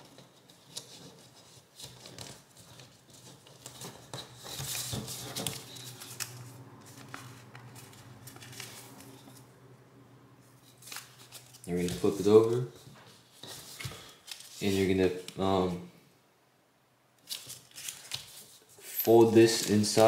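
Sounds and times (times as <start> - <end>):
paper rustling and crinkling: 0.0 - 9.4, 10.6 - 15.4, 17.2 - 20.0.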